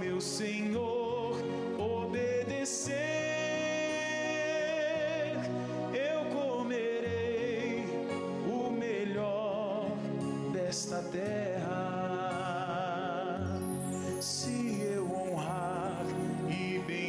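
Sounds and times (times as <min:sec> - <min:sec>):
instrumental backing: 0:00.0 - 0:17.0
person singing with vibrato: 0:00.0 - 0:17.0.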